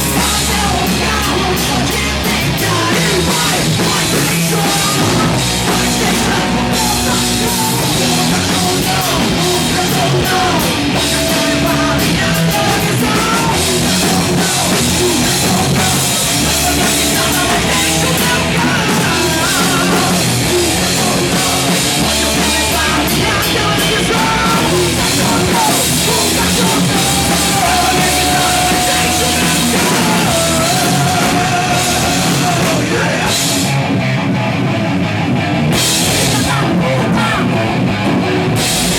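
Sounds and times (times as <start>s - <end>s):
hard rock band playing live: 0.0s - 38.9s.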